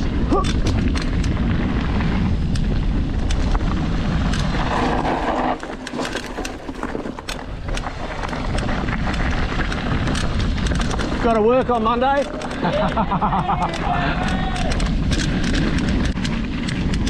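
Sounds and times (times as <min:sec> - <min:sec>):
bike chain and frame rattling: 0:00.0 - 0:17.0
wind and tyre rumble: 0:00.0 - 0:17.0.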